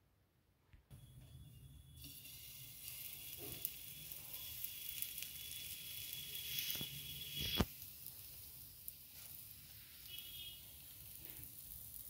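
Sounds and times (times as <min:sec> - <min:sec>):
batter sizzling on hot pan: 0:01.0 - 0:12.0.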